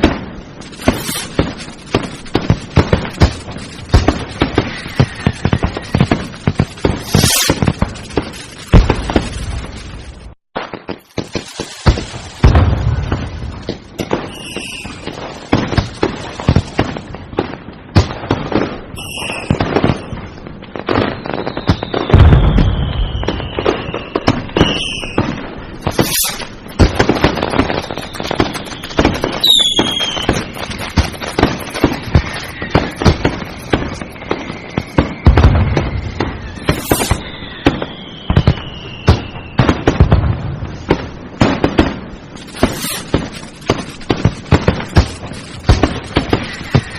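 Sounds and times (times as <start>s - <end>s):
firecrackers cracking and banging: 0.0s - 46.9s
heavy firework booms: 0.0s - 46.9s
whistling rockets: 0.0s - 46.9s.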